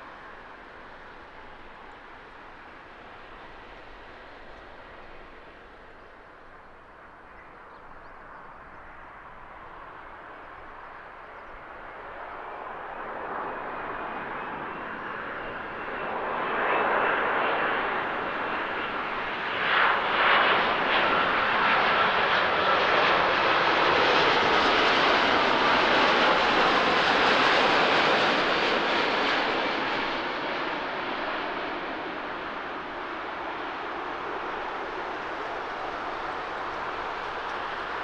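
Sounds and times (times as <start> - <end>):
faint steady engine whine: 0.0 - 38.0
jet airliner passing close: 0.0 - 38.0.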